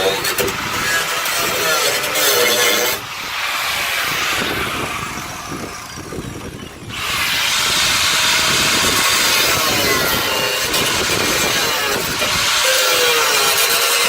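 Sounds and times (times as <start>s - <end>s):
power saw cutting sheet steel: 0.0s - 14.0s.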